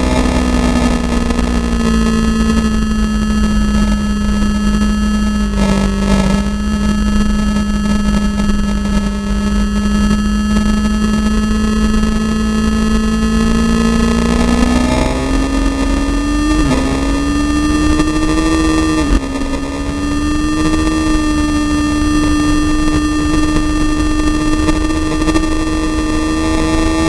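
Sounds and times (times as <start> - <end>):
racing engine at high revs: 0.0 - 27.0.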